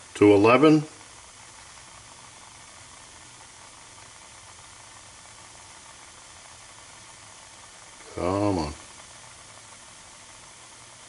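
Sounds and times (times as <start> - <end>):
alcohol burner hissing: 0.0 - 11.0.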